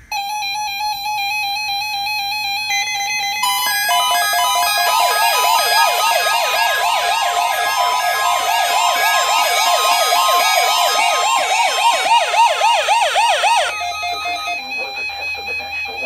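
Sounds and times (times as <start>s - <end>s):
steady high alert tone: 0.0s - 16.0s
weather radio alarm warbles: 0.0s - 16.0s.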